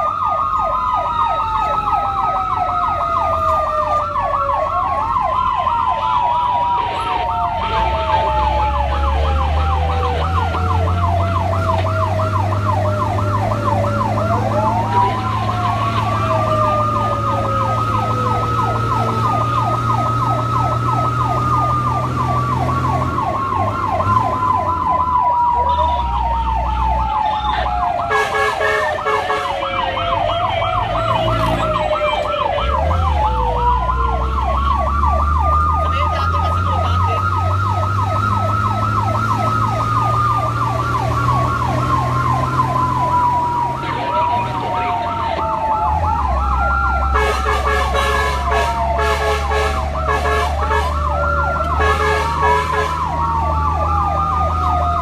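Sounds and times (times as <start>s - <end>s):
truck engine droning: 0.0s - 55.0s
wail siren: 0.0s - 55.0s
yelp siren: 0.0s - 55.0s.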